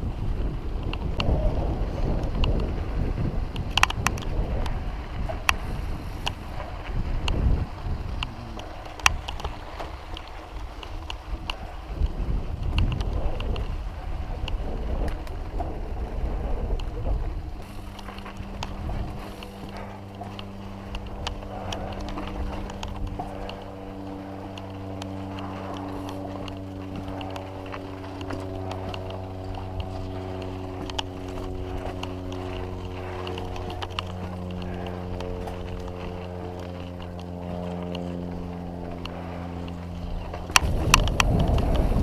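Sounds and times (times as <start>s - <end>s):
low hum with held pitches: 0.0s - 42.0s
mountain bike rattling on trail: 0.0s - 42.0s
wind buffeting microphone: 0.0s - 42.0s.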